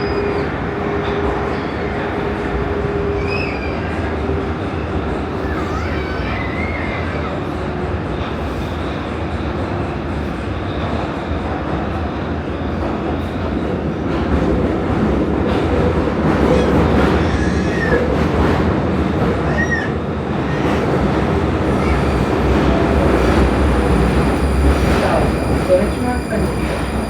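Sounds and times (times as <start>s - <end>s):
metro train rumble: 0.0s - 27.0s.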